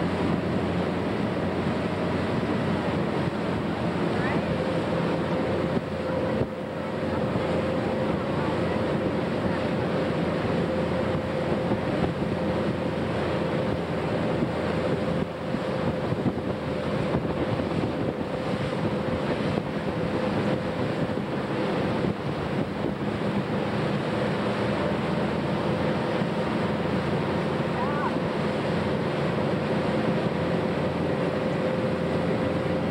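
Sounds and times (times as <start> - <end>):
wind buffeting microphone: 0.0 - 27.6
churning wake rushing: 0.0 - 32.9
motorboat engine drone: 0.0 - 32.9.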